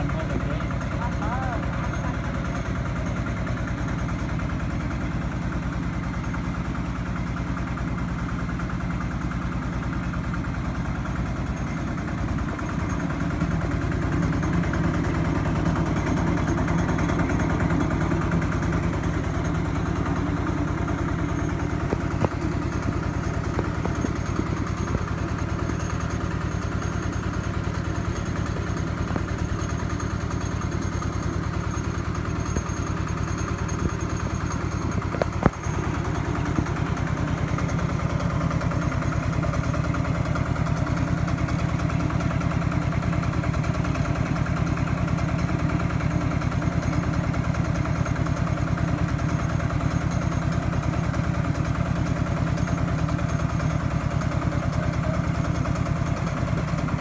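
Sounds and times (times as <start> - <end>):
diesel engine running: 0.0 - 57.0
rice hulling mill: 0.0 - 57.0.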